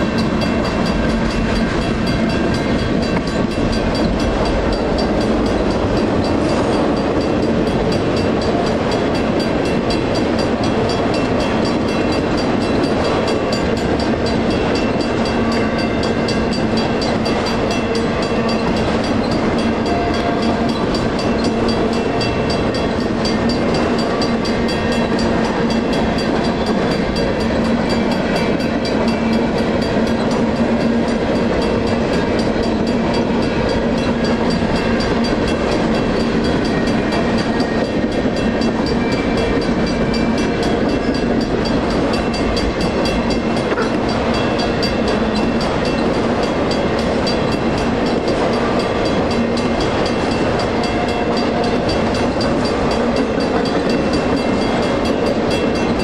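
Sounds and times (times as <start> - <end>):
crossing bell ringing: 0.0 - 56.0.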